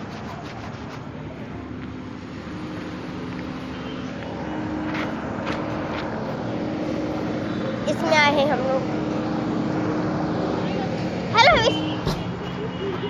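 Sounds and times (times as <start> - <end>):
car engine running: 1.0 - 13.0.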